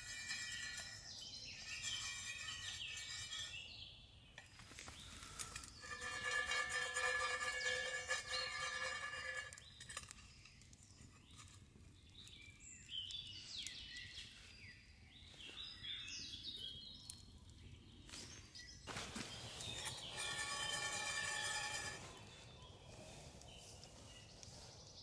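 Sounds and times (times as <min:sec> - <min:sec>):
birds chirping and whistling: 0:00.0 - 0:06.0, 0:09.6 - 0:25.0.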